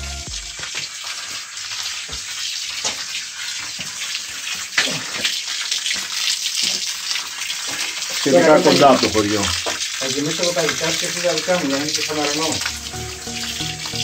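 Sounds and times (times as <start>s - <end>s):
fountain water splashing into basin: 0.0s - 14.0s.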